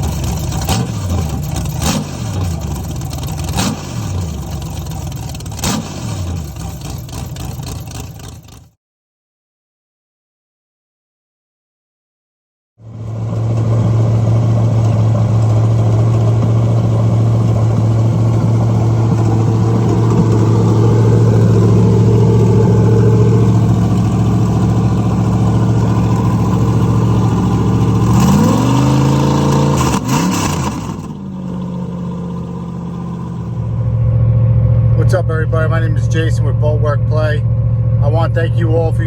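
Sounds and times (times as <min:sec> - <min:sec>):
boat engine idling and revving: 0:00.0 - 0:08.8, 0:12.8 - 0:39.0.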